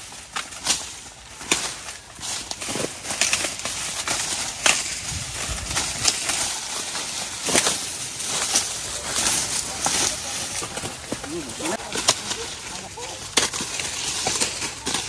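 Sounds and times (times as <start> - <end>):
corn ears snapping off: 0.0 - 15.0
dry corn stalks rustling: 0.0 - 15.0.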